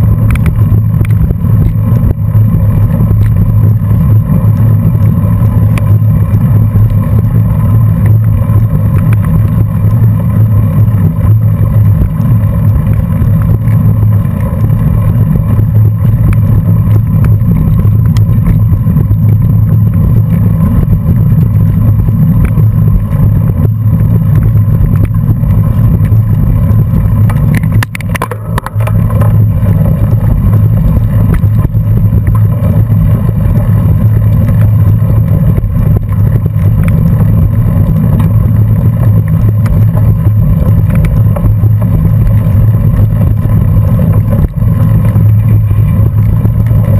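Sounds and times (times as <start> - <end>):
wind and road rumble: 0.0 - 46.9.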